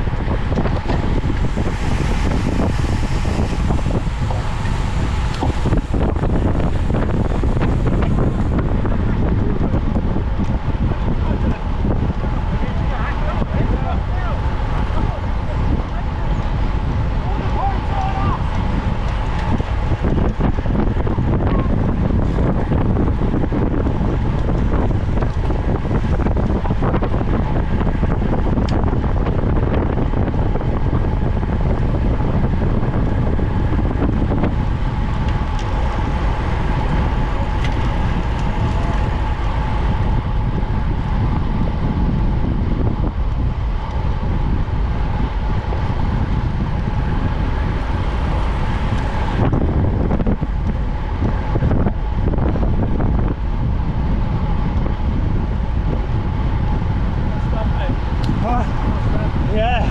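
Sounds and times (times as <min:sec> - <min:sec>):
steady high hum: 0:00.0 - 0:59.9
wind buffeting microphone: 0:00.0 - 0:59.9.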